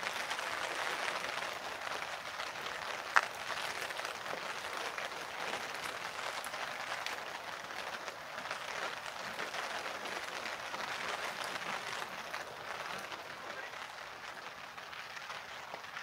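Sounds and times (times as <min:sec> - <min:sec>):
raindrop hits ticking: 0:00.0 - 0:16.0
steady rain falling: 0:00.0 - 0:16.0.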